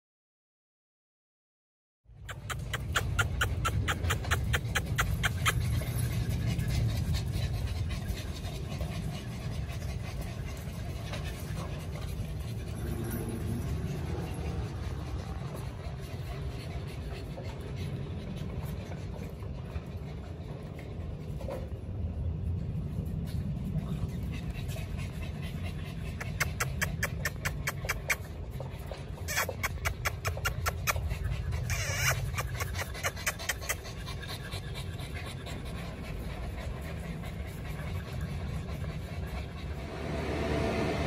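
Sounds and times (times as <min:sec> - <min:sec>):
puppies panting: 0:02.1 - 0:41.0
steady low rumble: 0:02.2 - 0:41.0.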